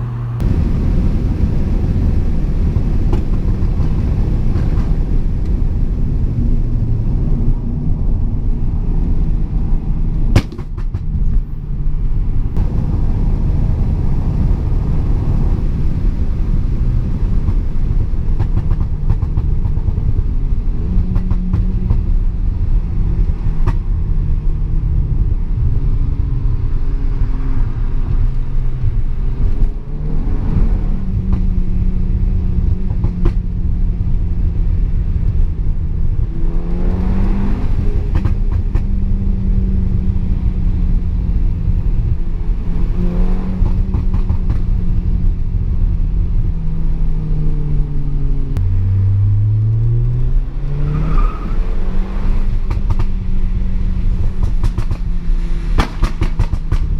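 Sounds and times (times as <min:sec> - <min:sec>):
car engine revving under load: 0:00.0 - 0:56.9
road rumble: 0:00.0 - 0:56.9.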